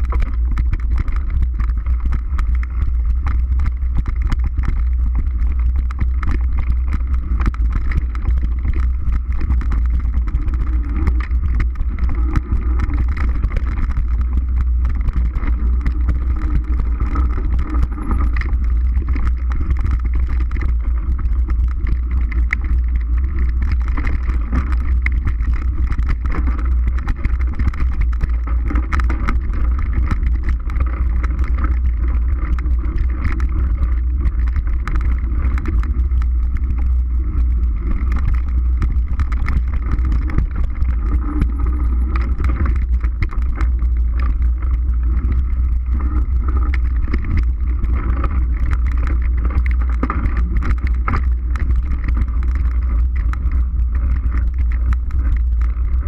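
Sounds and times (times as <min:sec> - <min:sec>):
bike rattles and knocks: 0:00.0 - 0:56.0
wind and tyre rumble: 0:00.0 - 0:56.0.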